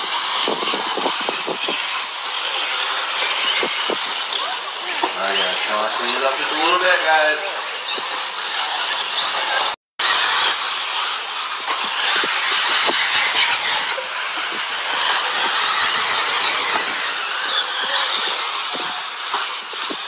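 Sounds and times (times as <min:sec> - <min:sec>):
rc car motors hissing on dirt: 0:00.0 - 0:20.0.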